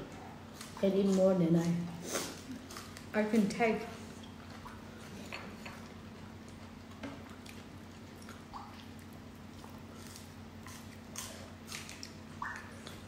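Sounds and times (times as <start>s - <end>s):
quiet chewing: 0.0s - 3.1s, 4.1s - 13.0s
low steady hum: 0.0s - 13.0s.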